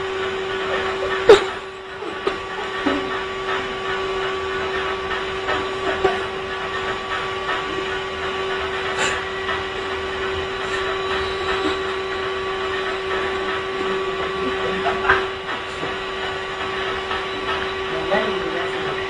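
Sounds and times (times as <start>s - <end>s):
machine hum and hiss: 0.0s - 19.0s.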